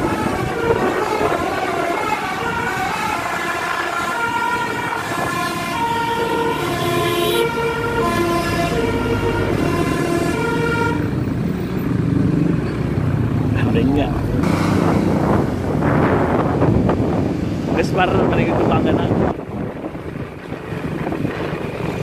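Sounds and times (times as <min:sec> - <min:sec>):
vehicle traffic noise: 0:00.0 - 0:22.0.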